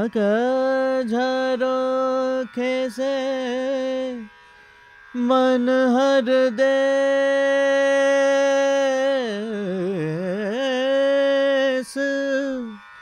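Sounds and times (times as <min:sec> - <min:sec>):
man singing: 0:00.0 - 0:04.3, 0:05.1 - 0:12.8.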